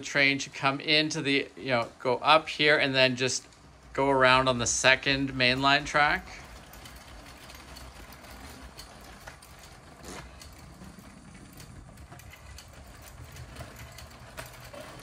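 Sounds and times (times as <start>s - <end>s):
toy train motor rumbling: 0.0s - 15.0s
wheels clicking over track joints: 0.0s - 15.0s.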